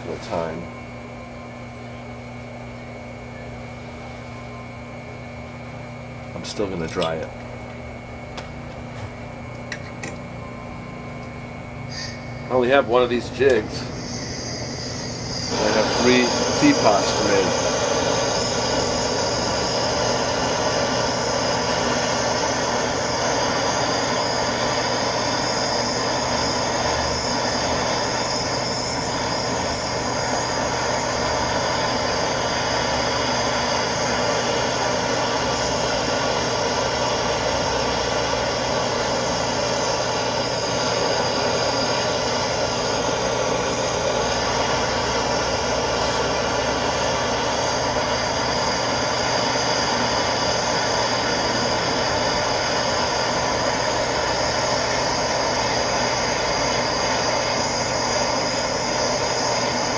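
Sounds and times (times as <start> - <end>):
pottery wheel hum: 0.0 - 59.9
gas torch rushing: 11.8 - 59.9.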